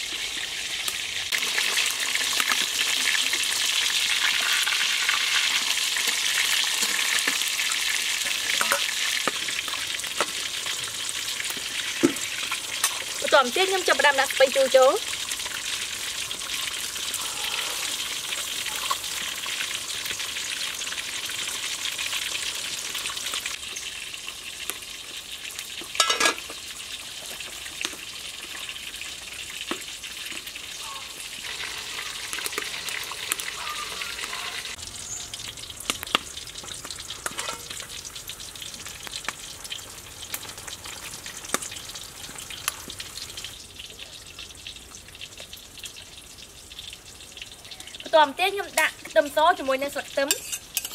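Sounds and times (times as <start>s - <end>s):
soup boiling and bubbling: 0.0s - 50.9s.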